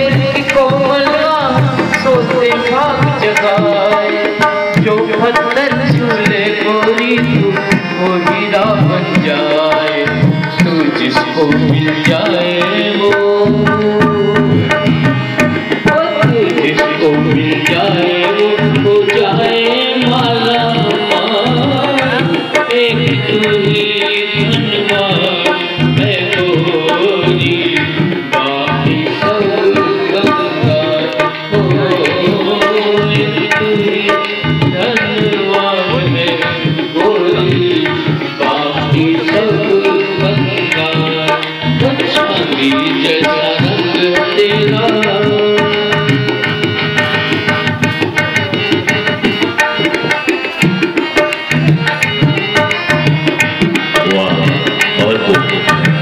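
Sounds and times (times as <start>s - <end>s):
sustained melodic instrumental accompaniment: 0.0s - 56.0s
tabla drumming: 0.0s - 56.0s.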